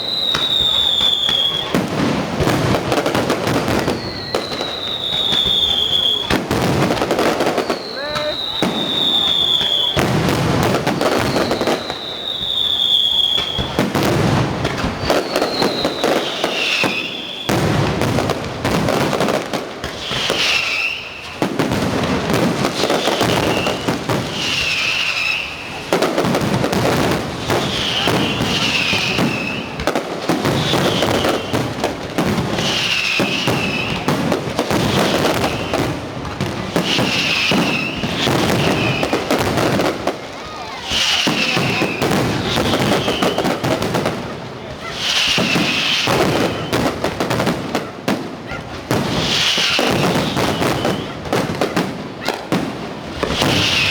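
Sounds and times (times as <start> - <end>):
fireworks bursting and crackling: 0.0 - 53.9
fireworks whistling: 0.0 - 53.9.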